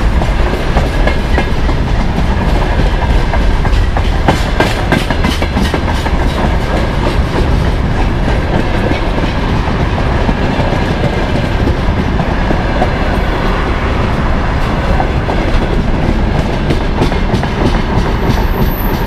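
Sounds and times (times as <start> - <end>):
train wheels clattering over rail joints: 0.0 - 13.2, 14.6 - 19.0.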